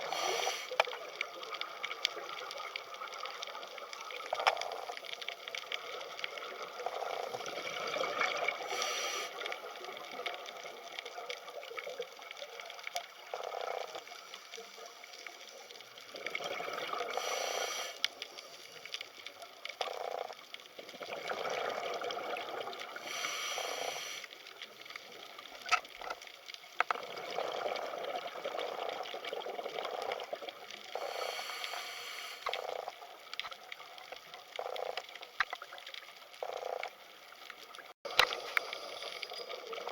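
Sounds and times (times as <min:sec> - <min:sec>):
underwater wash: 0:00.0 - 0:39.9.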